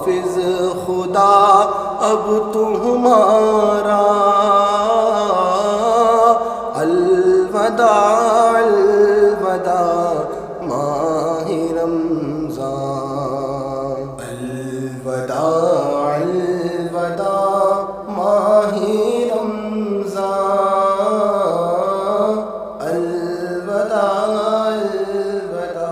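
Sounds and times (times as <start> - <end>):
man singing a slow chant: 0.0 - 25.9.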